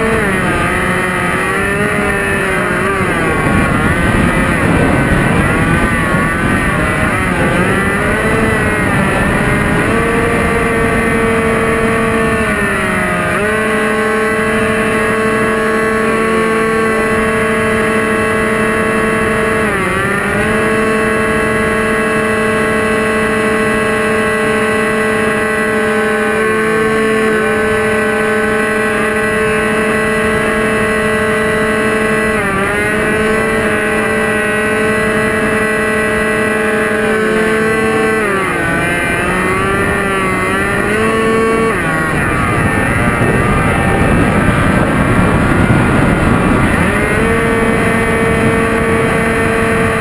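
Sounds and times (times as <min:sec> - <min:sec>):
model plane motors whining: 0:00.0 - 0:50.0.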